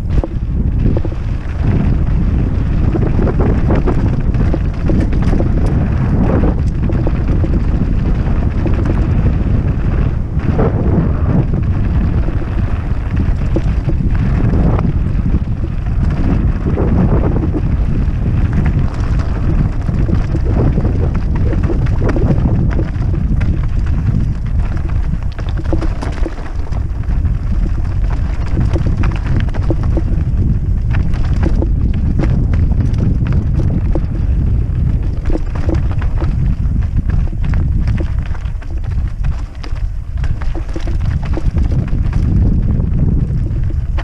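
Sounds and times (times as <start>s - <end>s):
bike tyres clattering over stones: 0.0s - 44.0s
wind rumble on microphone: 0.0s - 44.0s.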